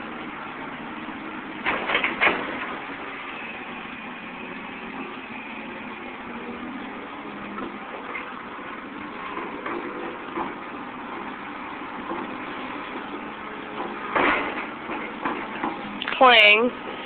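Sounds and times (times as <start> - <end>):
excavator engine droning: 0.0 - 17.0.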